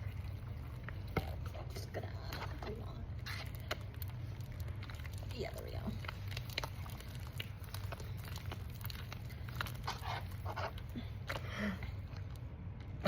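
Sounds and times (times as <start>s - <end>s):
slime squelching: 0.0s - 13.0s
steady low hum: 0.0s - 13.0s.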